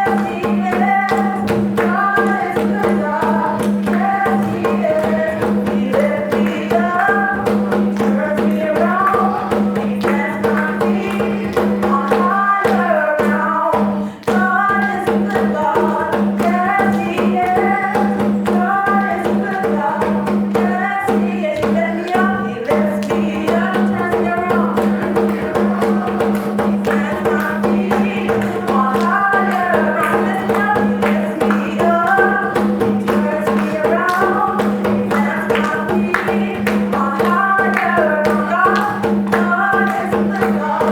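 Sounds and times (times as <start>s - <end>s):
gospel worship music: 0.0s - 40.9s
percussion beat: 0.0s - 40.9s.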